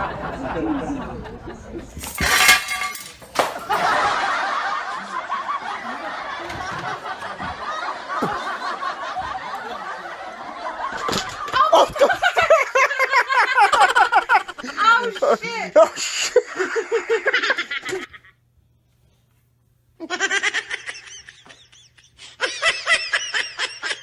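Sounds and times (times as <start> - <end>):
people laughing: 0.0 - 2.0, 3.4 - 18.3, 20.0 - 24.0.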